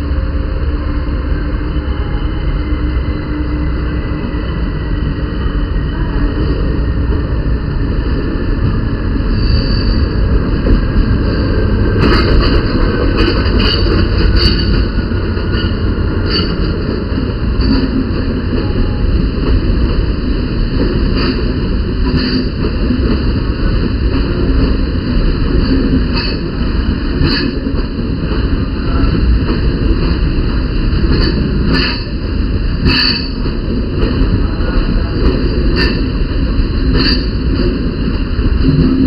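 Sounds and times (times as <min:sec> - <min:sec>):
diesel locomotive running: 0:00.0 - 0:39.0
train coaches rumbling on rails: 0:00.0 - 0:39.0.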